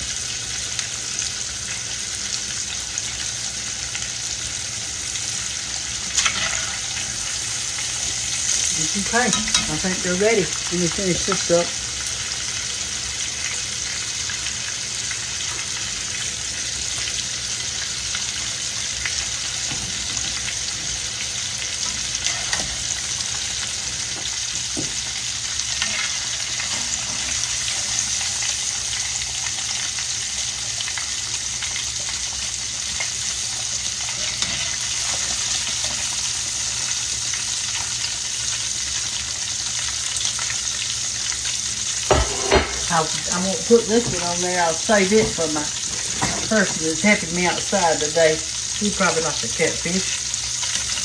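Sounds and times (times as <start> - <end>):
fish deep-frying sizzle: 0.0 - 51.0.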